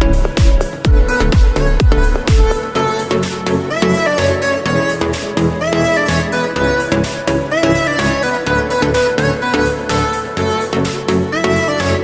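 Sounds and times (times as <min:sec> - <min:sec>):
music with bowed strings and beat: 0:00.0 - 0:12.0.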